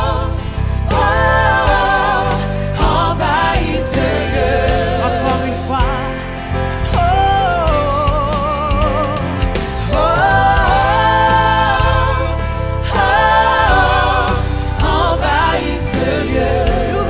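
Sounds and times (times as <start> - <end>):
band with steady bass line: 0.0 - 17.0.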